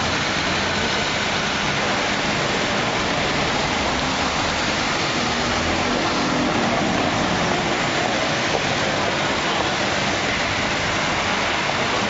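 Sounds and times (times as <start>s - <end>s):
rain hissing: 0.0s - 12.0s
traffic on wet pavement: 0.0s - 12.0s.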